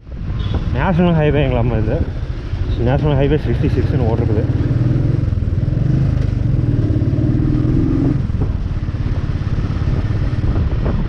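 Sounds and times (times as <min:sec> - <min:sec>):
motorcycle engine cruising: 0:01.9 - 0:11.0.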